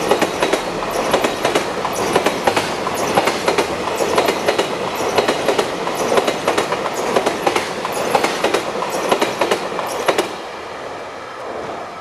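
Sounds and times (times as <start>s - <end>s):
train wheels clattering over rail joints: 0.0s - 10.4s
train rolling rumble: 0.0s - 12.0s.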